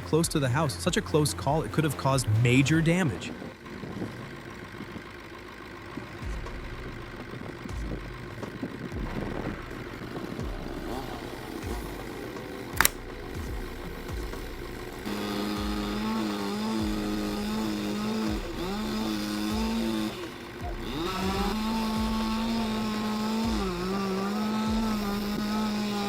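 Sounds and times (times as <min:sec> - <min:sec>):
chainsaw cutting at high revs: 0:00.0 - 0:26.0.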